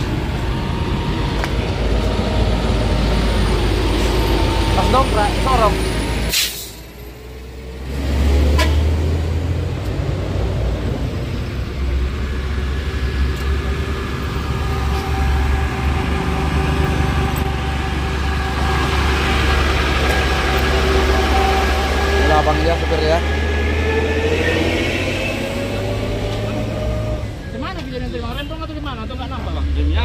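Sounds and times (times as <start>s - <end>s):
engine humming: 0.0s - 29.4s.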